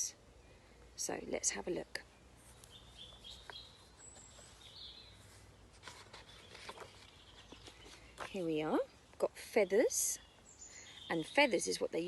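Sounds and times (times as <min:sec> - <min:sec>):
faint birdsong chirps: 0:00.0 - 0:12.0
low background noise: 0:00.0 - 0:12.0.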